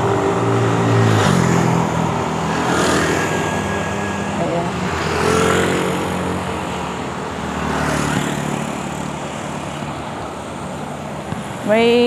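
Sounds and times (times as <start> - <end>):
motorcycle engines passing: 0.0 - 12.0
road noise: 0.0 - 12.0.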